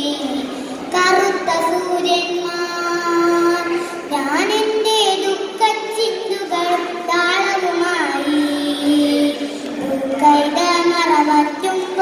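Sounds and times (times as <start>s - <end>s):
girl reciting in sung style: 0.0s - 12.0s.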